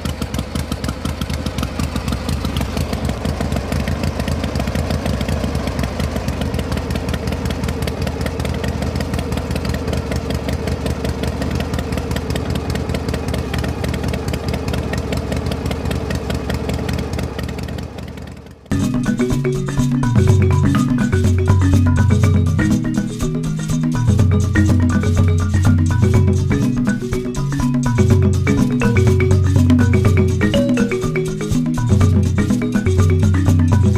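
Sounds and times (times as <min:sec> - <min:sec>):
small engine idling: 0:00.0 - 0:33.9.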